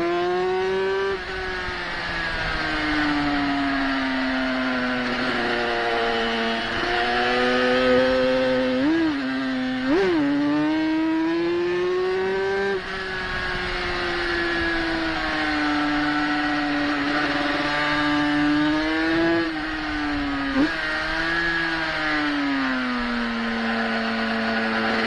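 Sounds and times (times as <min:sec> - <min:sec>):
racing motorcycle engine revving: 0:00.0 - 0:25.0.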